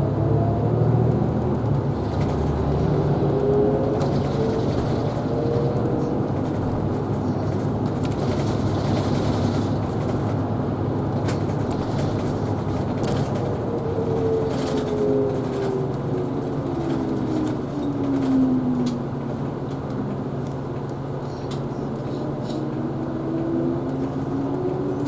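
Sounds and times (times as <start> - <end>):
bus driving interior noise: 0.0 - 25.0.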